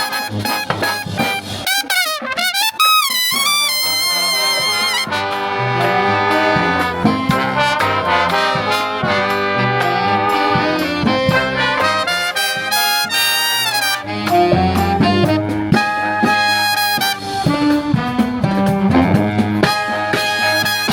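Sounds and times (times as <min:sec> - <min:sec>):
jazz brass music: 0:00.0 - 0:20.9.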